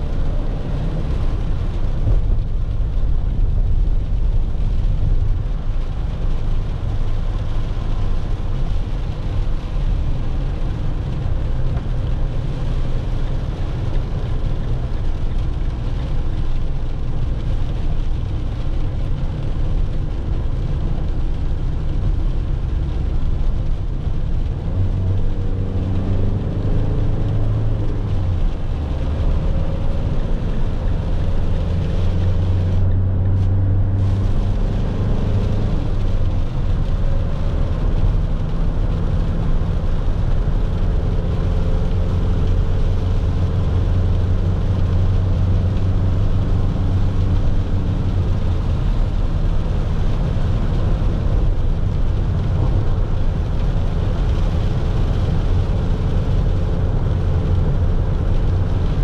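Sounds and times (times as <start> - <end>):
diesel van engine running: 0.0 - 59.0
tyres hissing on wet road: 0.0 - 59.0.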